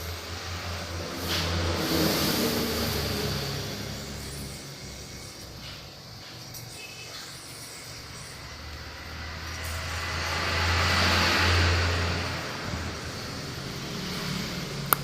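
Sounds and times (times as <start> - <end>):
motor vehicle passing: 0.0 - 5.8, 7.7 - 15.0.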